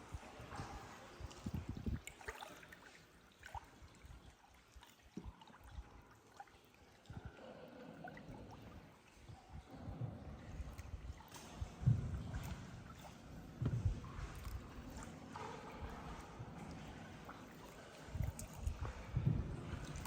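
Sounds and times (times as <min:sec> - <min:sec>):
paddle splashing water: 0:00.0 - 0:20.0.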